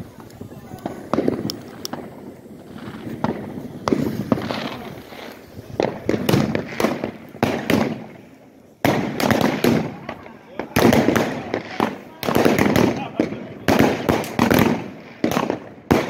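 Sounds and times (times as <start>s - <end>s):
fireworks bangs with rumbling echo: 0.0s - 16.0s.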